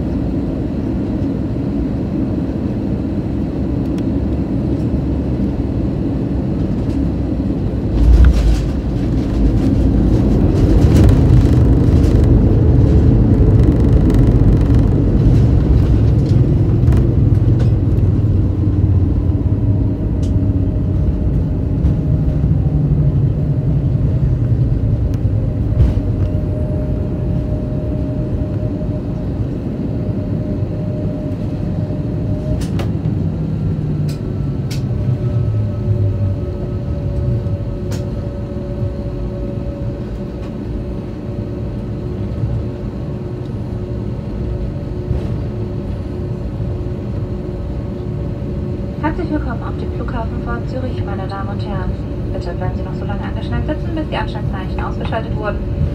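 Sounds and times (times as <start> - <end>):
faint steady whines: 0.0 - 55.9
jet engines and rolling rumble: 0.0 - 55.9.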